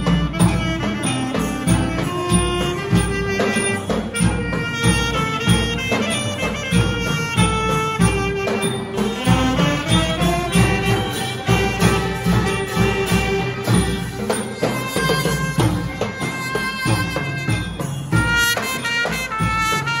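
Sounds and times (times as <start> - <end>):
alto saxophone slow melody: 0.0 - 20.0
brass band accompaniment: 0.0 - 20.0
steady drum beat: 0.0 - 20.0.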